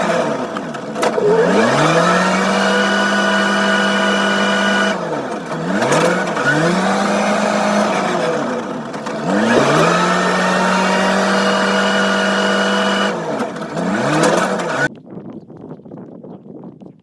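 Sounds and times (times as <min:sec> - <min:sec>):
loader engine revving: 0:00.0 - 0:14.9.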